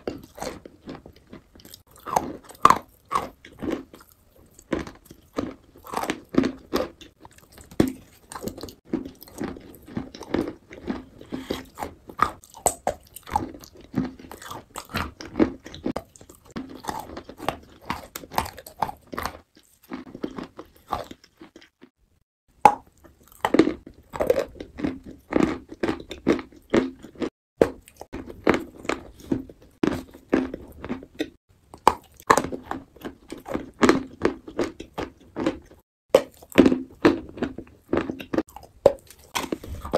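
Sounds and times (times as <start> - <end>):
crisp chewing crunches: 0.0 - 22.0, 22.6 - 39.9.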